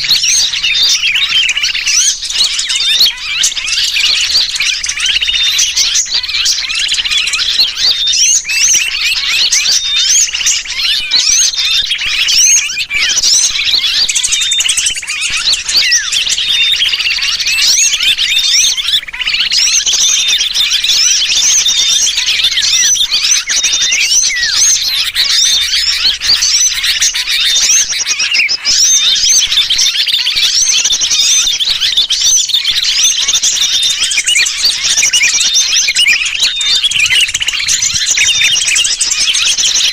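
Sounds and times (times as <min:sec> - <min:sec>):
bird distress calls: 0:00.0 - 0:39.9
small birds chattering in alarm: 0:00.0 - 0:39.9.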